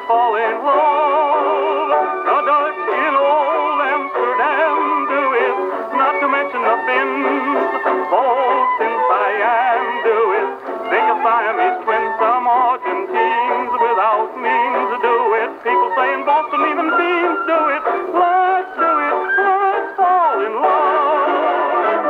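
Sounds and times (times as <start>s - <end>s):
phonograph record of singing: 0.0s - 22.0s.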